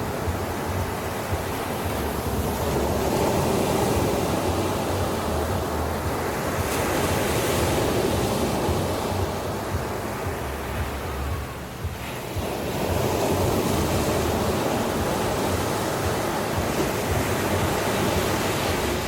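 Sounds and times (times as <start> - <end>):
ocean waves washing onto beach: 0.0 - 19.0.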